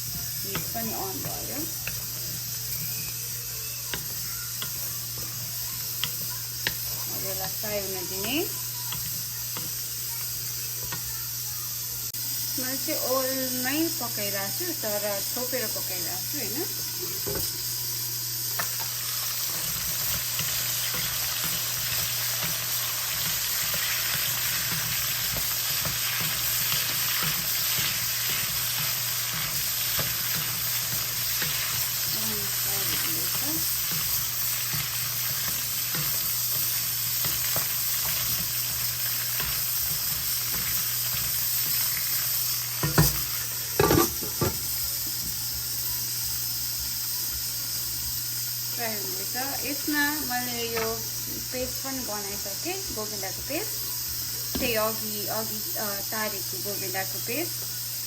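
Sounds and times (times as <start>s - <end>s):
potatoes sizzling in a pan: 0.0s - 58.0s.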